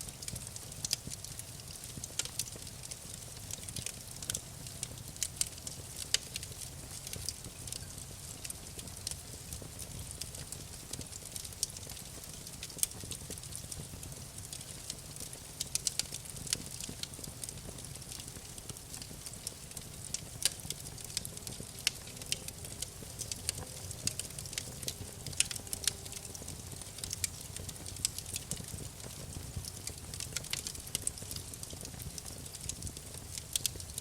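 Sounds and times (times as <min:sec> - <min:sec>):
low rumble of flames: 0:00.0 - 0:34.0
wood crackling and popping: 0:00.0 - 0:34.0.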